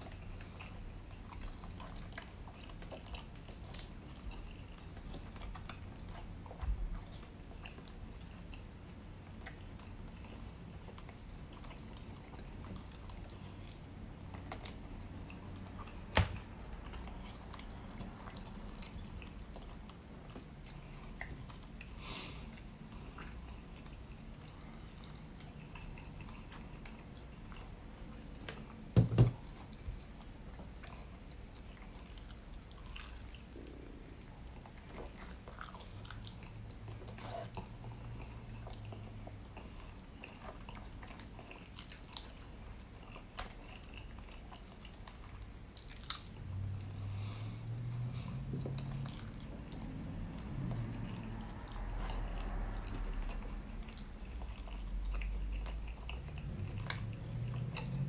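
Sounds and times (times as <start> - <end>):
close chewing and mouth sounds: 0.0 - 58.0.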